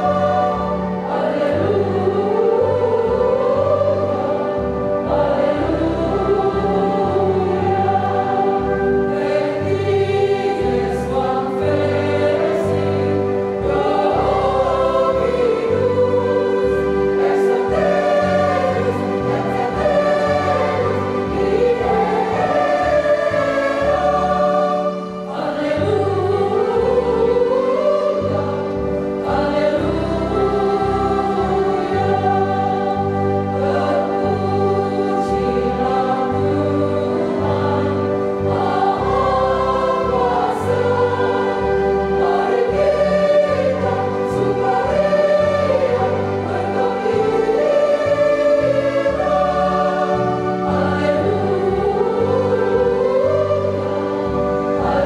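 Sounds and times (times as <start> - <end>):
women's choir singing a hymn: 0.0 - 55.0.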